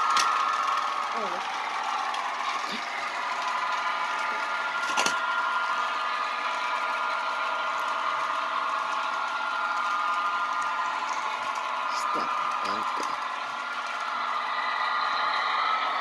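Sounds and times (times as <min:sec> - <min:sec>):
model train motor whining: 0:00.0 - 0:16.0.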